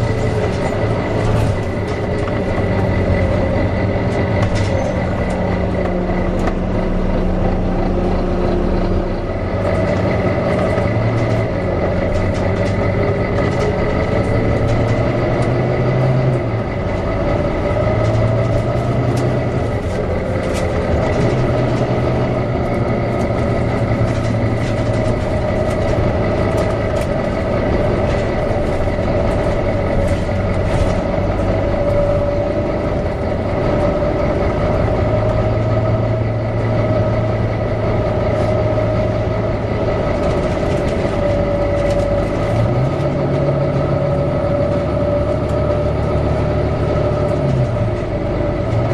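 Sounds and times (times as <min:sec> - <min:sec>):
bus cooling fan whining: 0:00.0 - 0:48.9
bus engine running: 0:00.0 - 0:48.9
low hum: 0:00.0 - 0:48.9.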